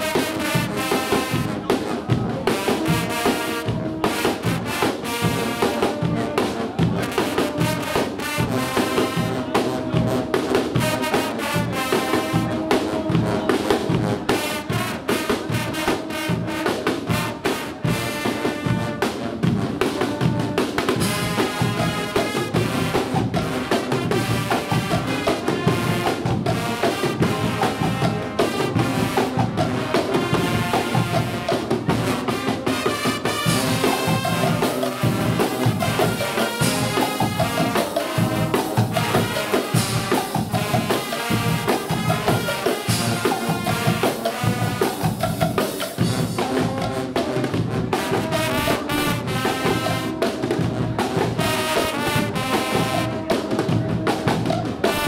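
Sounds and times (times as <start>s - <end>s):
brass band playing: 0.0s - 55.0s
drum kits and bass drum beat: 0.0s - 55.0s.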